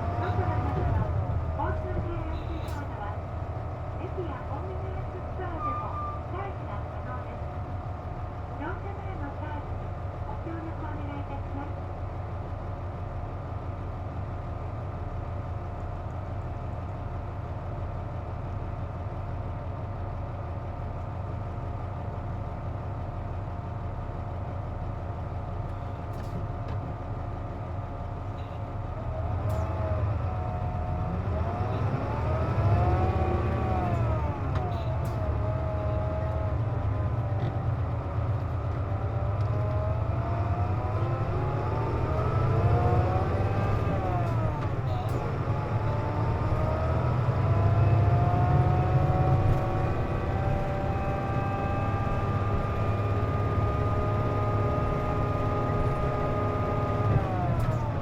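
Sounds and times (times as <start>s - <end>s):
bus engine idling and revving: 0.0s - 58.0s.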